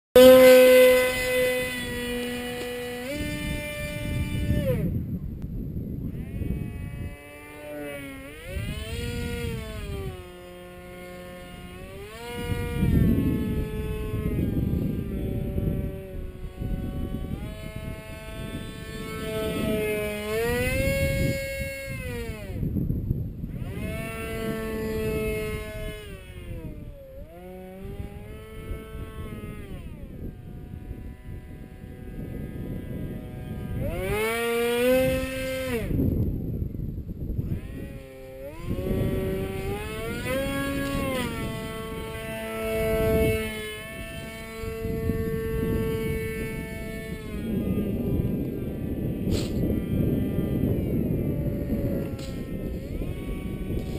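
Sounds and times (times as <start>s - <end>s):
model jet motor whining: 0.2s - 5.4s, 6.0s - 53.9s
wind rumble on microphone: 0.2s - 53.9s.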